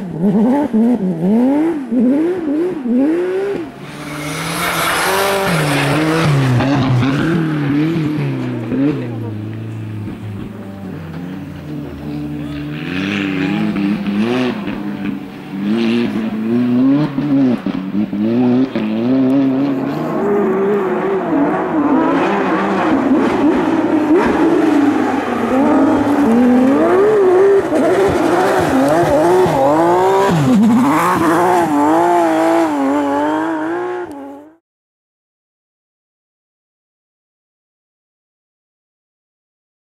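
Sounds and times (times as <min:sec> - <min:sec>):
rally car engine revving: 0:00.0 - 0:34.6.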